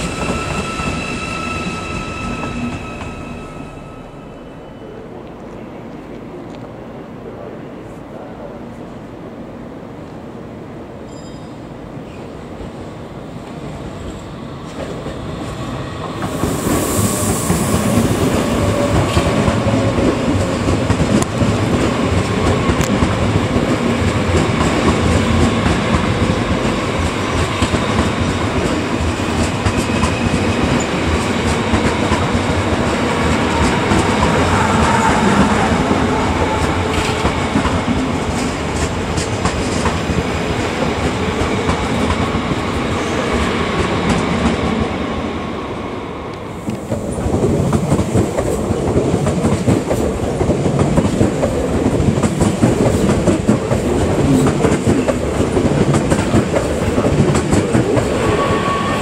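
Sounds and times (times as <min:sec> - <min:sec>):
electric train rolling past: 0:00.0 - 0:08.4, 0:09.0 - 0:59.0.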